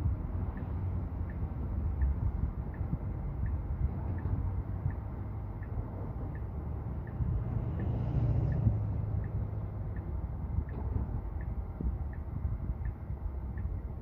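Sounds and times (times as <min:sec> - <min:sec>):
road and tyre noise in car: 0:00.0 - 0:14.0
light regular ticking: 0:00.5 - 0:14.0.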